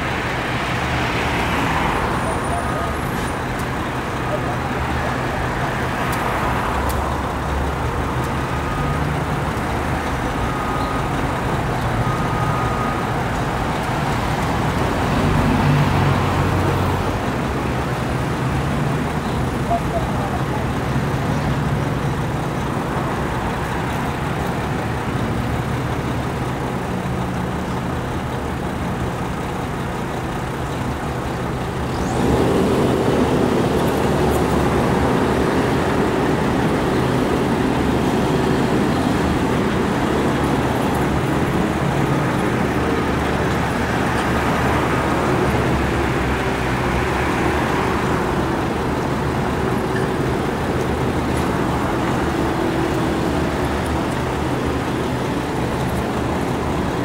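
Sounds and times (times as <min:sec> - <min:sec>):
cars passing: 0:00.0 - 0:57.0
steady engine hum: 0:00.0 - 0:57.0.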